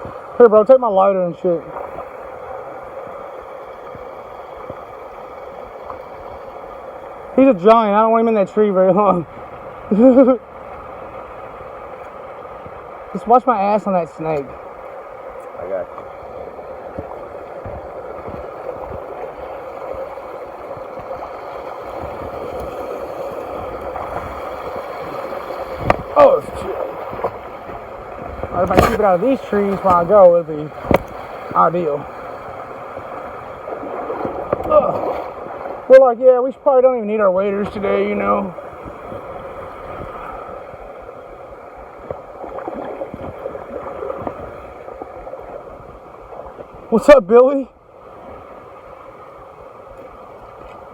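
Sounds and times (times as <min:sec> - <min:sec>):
creek water rushing: 0:00.0 - 0:50.9.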